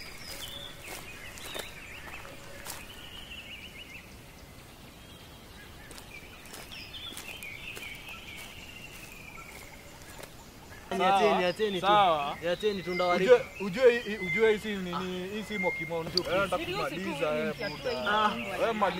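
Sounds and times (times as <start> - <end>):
birds singing: 0.0 - 18.9.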